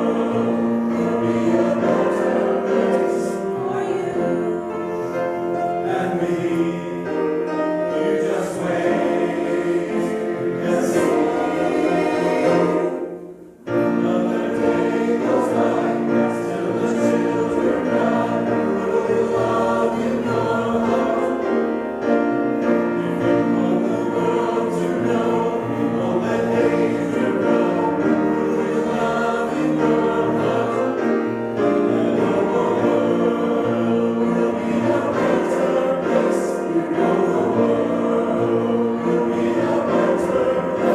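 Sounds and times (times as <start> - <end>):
choir singing in parts: 0.0 - 40.9.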